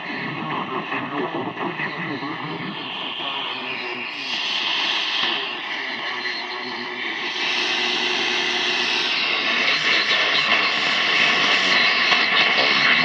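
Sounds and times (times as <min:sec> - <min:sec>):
faint steady radio tones: 0:00.0 - 0:13.0
radio static hiss: 0:00.0 - 0:13.0.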